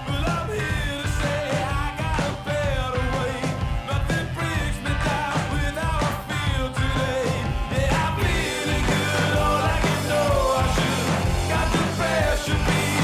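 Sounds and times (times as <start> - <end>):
song with singing over band: 0.0 - 13.0.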